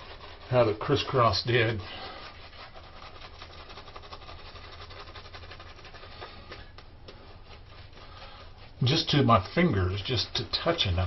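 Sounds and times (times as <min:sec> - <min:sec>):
shaving brush rubbing lather: 0:00.0 - 0:11.0.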